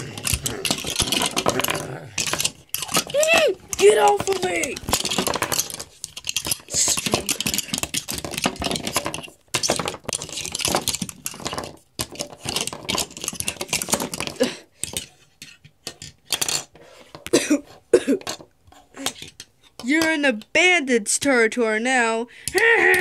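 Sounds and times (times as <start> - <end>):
handling noise scraping and rustling: 0.0 - 20.4.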